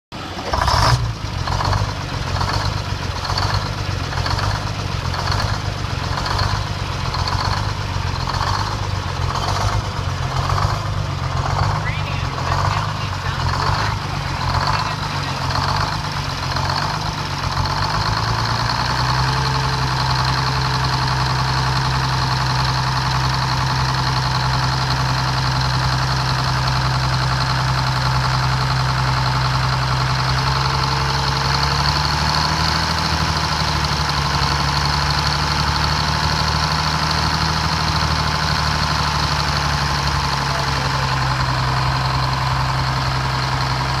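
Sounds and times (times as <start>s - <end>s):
truck engine idling: 0.1s - 44.0s.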